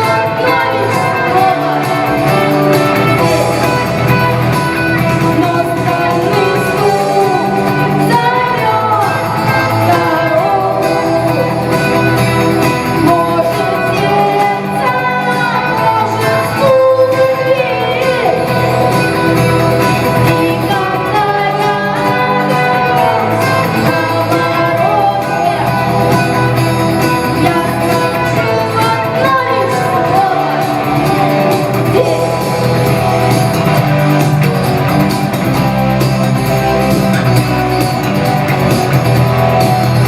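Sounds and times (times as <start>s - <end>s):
rock song with singing and guitar: 0.0s - 40.0s.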